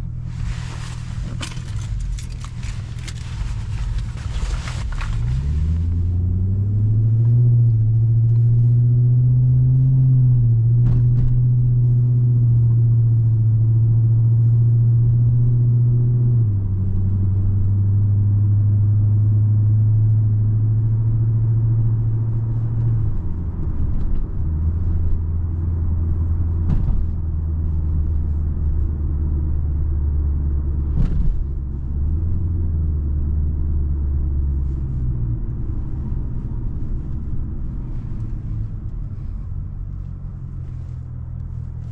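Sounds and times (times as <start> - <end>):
car engine and exhaust droning: 0.0 - 41.9.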